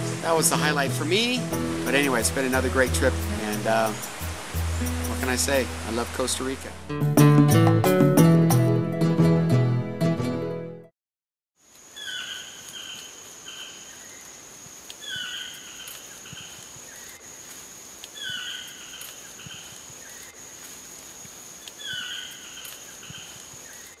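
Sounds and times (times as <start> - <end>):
insects droning: 0.0 - 6.8, 11.6 - 24.0.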